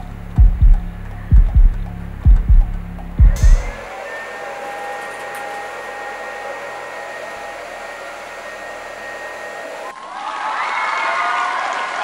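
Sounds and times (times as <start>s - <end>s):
thin steady fan whine: 0.0s - 10.0s
cooling fans hissing: 0.0s - 10.7s.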